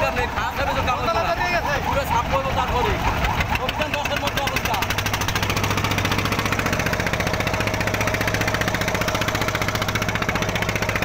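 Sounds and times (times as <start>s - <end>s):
boat engine knocking: 0.0s - 11.0s.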